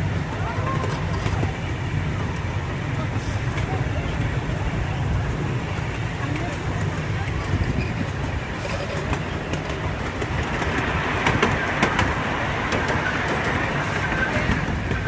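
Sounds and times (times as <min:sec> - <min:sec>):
train rumbling along track: 0:00.0 - 0:15.0
wheels clicking over rail joints: 0:00.3 - 0:04.4, 0:05.0 - 0:15.0.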